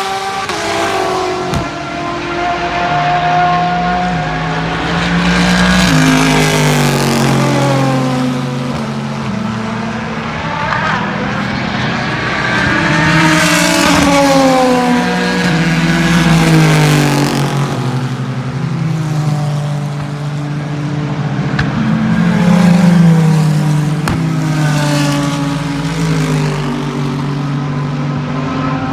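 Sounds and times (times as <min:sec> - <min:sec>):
race cars passing at speed: 0:00.0 - 0:28.9.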